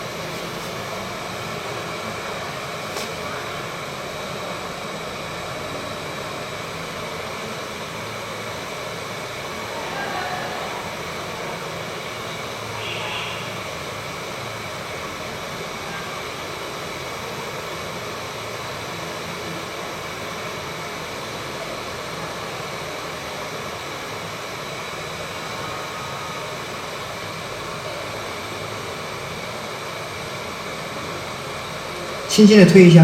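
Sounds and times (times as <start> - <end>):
hot-air station blowing air: 0.0 - 33.0.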